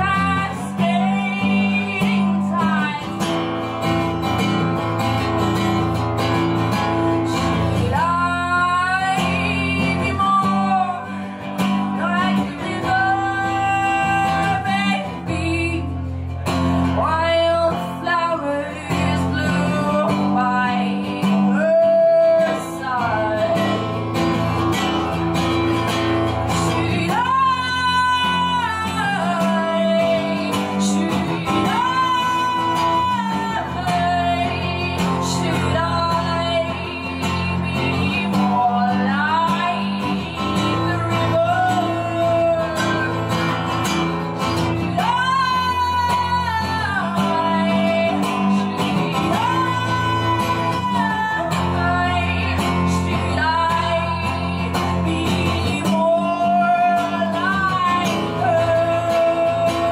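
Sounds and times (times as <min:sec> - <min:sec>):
strummed acoustic guitar: 0:00.0 - 0:59.9
woman singing: 0:00.0 - 0:59.9.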